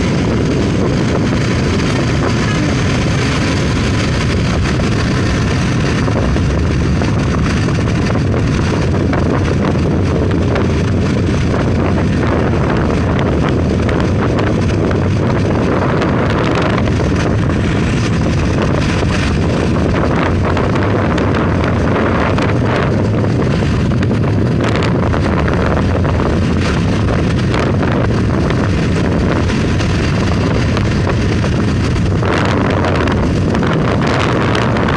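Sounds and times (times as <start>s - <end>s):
vehicle rumbling on road: 0.0s - 34.9s
wind buffeting microphone: 0.0s - 34.9s.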